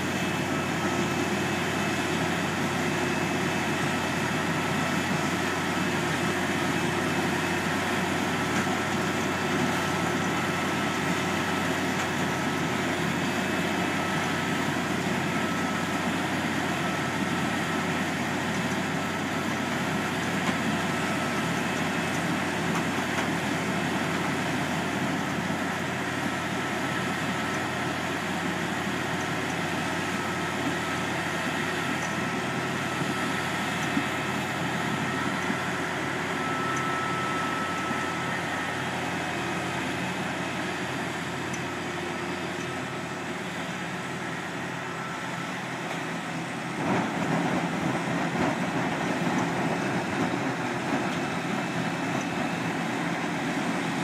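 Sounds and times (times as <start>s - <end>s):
farm machinery drone: 0.0s - 54.0s.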